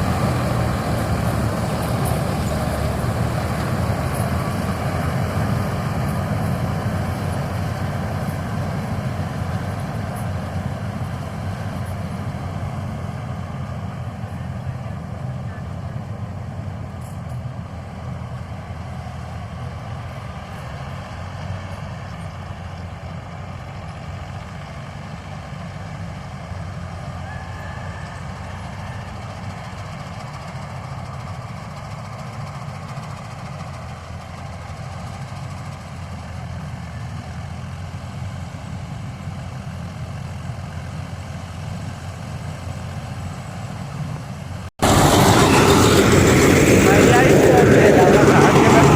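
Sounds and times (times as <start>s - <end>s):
harvester engine low rumble: 0.0s - 48.9s
loud harsh engine noise: 0.0s - 48.9s.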